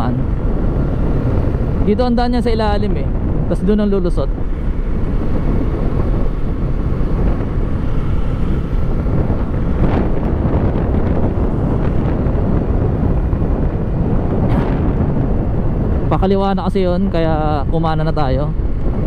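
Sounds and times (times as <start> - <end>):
motorcycle engine and road noise: 0.0 - 19.0
wind rushing over microphone: 0.0 - 19.0.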